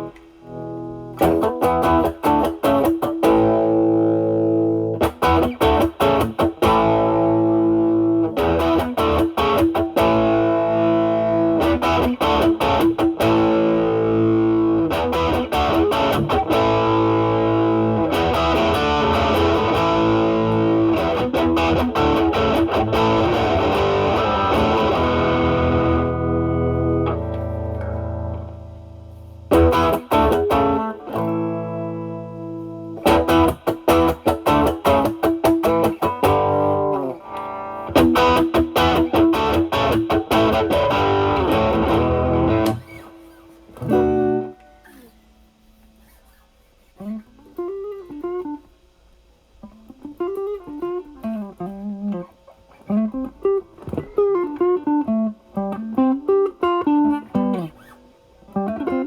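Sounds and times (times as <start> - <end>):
overdriven electric guitar: 0.0 - 46.0, 47.0 - 48.8, 49.5 - 59.0.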